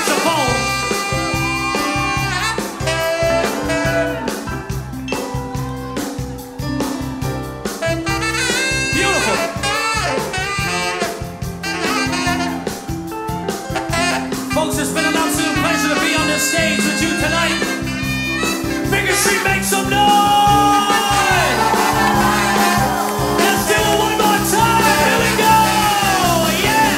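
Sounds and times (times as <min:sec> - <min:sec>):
swing band playing: 0:00.0 - 0:26.9.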